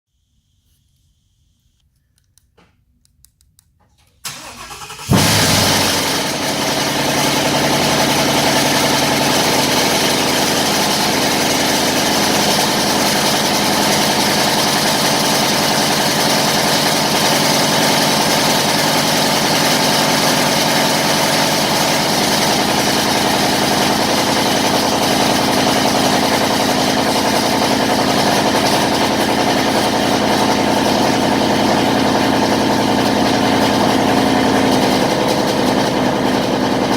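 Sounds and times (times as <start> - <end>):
car engine starting and idling: 4.2 - 36.9
starter motor cranking: 4.2 - 36.9.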